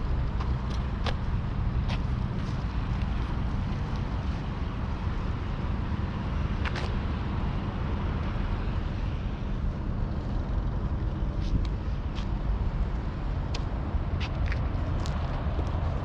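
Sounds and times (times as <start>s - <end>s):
skateboard wheels rolling on pavement: 0.0s - 16.0s.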